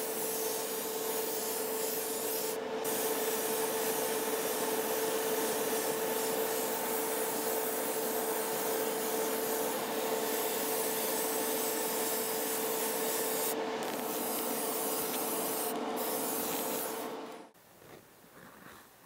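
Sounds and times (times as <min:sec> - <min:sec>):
spray gun hissing: 0:00.0 - 0:17.3
spray booth hum: 0:00.0 - 0:17.5.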